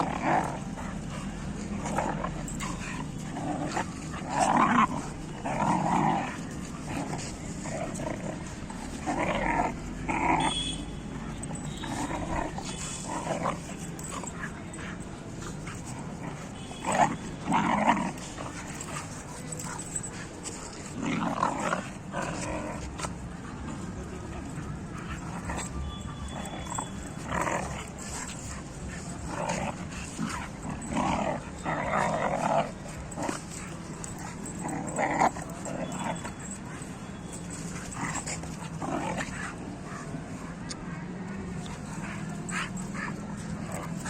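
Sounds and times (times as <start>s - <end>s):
dogs growling and yipping: 0.0s - 44.0s.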